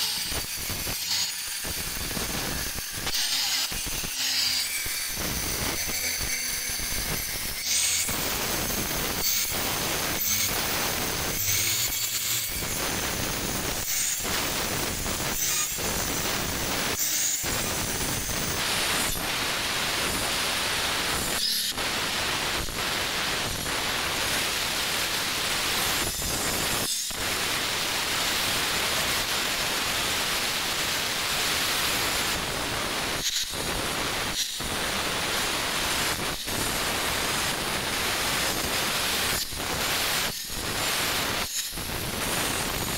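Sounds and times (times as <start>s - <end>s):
angle grinders grinding stone: 0.0s - 42.9s.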